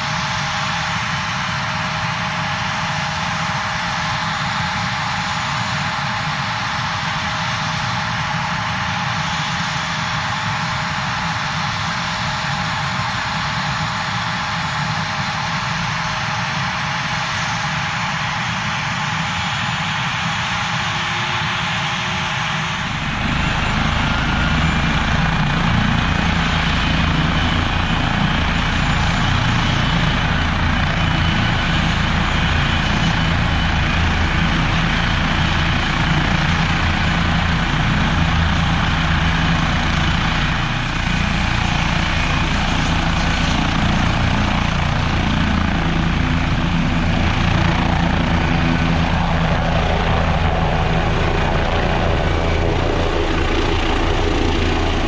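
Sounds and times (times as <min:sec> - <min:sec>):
helicopter turbine and rotor: 0:00.0 - 0:55.0.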